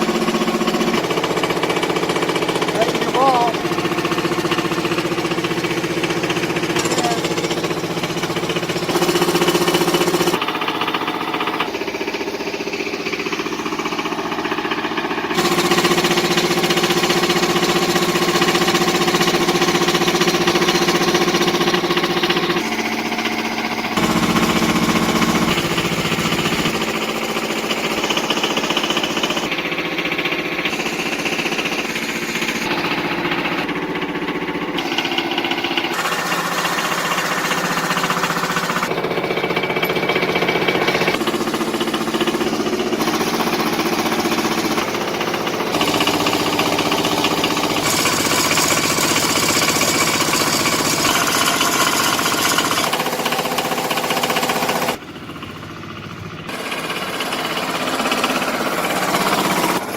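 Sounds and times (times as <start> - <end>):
tractor engine clattering: 0.0 - 59.9.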